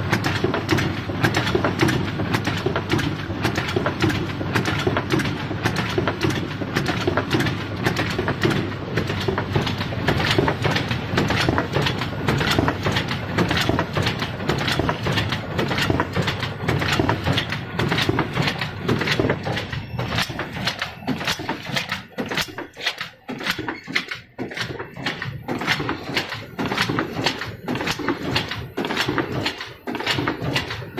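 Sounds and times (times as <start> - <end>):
rapid machine clattering: 0.0 - 30.9.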